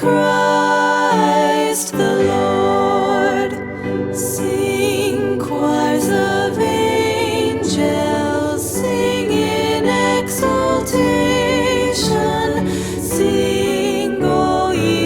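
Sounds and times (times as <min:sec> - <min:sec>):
christmas music melody: 0:00.0 - 0:15.0.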